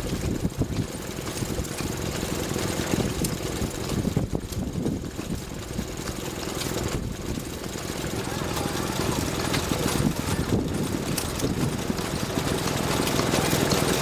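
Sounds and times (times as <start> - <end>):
stationary engine chugging: 0.0 - 14.0.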